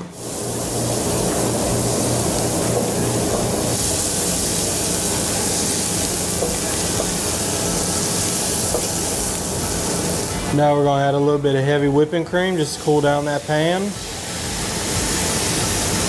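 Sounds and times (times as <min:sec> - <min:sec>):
shrimp sizzling in butter: 0:00.0 - 0:10.6, 0:12.5 - 0:16.0.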